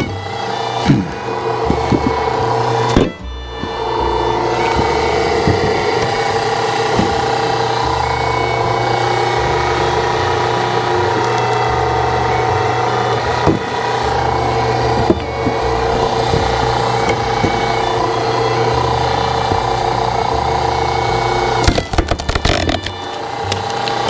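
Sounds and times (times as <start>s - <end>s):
hydraulic log splitter running: 0.0s - 24.0s
wood cracking: 0.0s - 24.0s.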